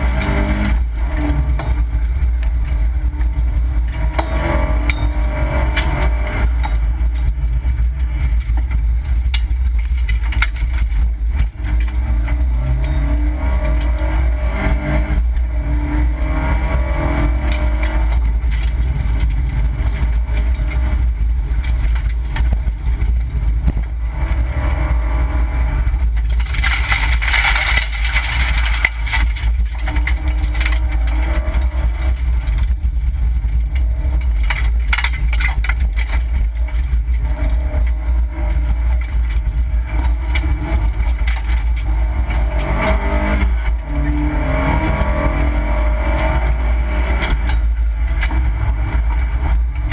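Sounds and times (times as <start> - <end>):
rally car engine revving: 0.0 - 49.9.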